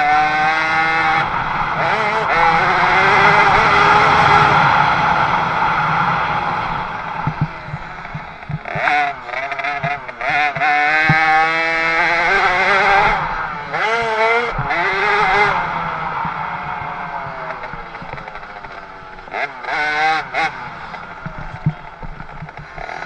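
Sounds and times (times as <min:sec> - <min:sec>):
two-stroke motorbike engine revving: 0:00.0 - 0:23.0.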